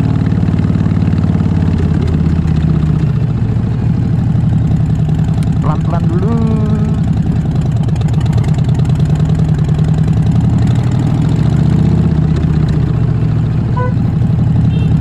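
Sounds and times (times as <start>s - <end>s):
motorcycle exhaust pulsing: 0.0s - 15.0s.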